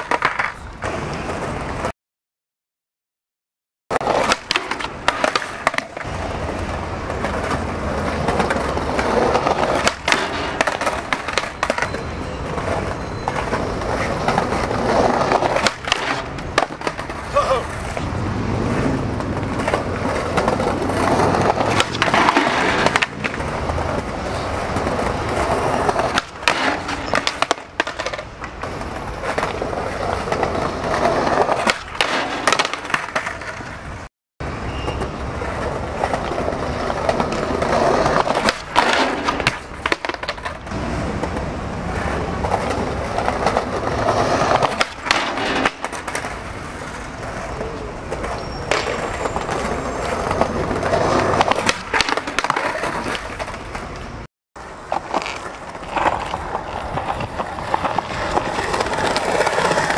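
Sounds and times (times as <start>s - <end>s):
skateboard cracks and clacks: 0.0s - 1.9s, 4.0s - 34.1s, 34.8s - 59.9s
skateboard wheels rolling on stone: 0.0s - 1.9s, 3.9s - 59.9s
skateboard trucks grinding ledge: 4.0s - 34.1s, 34.7s - 59.9s.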